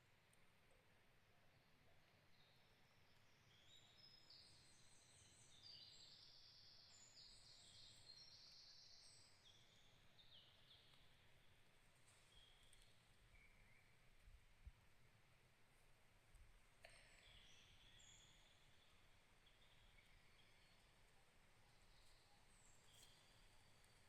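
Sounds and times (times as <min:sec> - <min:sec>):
soft low background hiss: 0:00.0 - 0:24.0.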